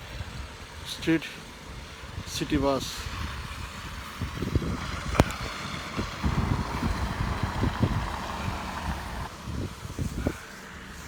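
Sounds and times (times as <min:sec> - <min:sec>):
street traffic hiss: 0:00.0 - 0:11.0
wind buffeting microphone: 0:01.5 - 0:11.0.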